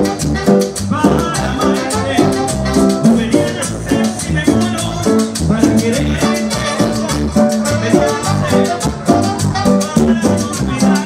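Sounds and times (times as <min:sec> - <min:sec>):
congas and timbales: 0:00.0 - 0:11.0
salsa band playing: 0:00.0 - 0:11.0.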